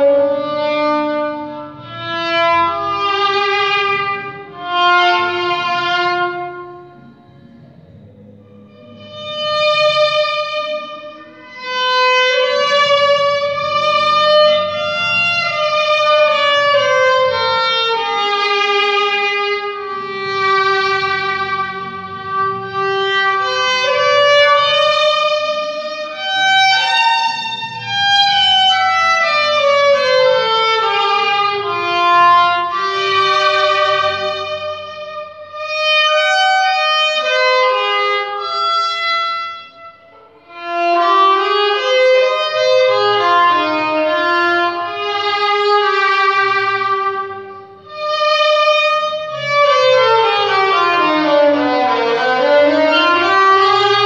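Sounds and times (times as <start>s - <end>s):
solo violin melody: 0.0s - 54.0s.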